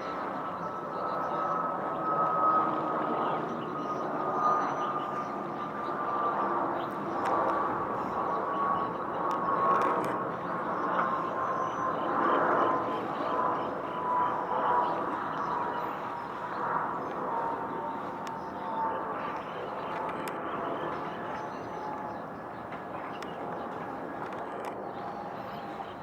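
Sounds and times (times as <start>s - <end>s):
distant engines and traffic hum: 4.6s - 26.0s.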